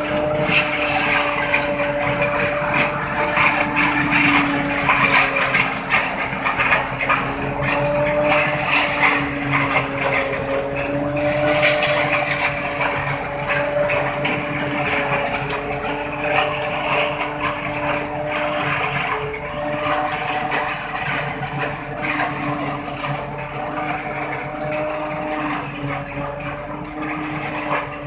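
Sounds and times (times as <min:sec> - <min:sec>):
rattle of chopped grass: 0:00.0 - 0:28.0.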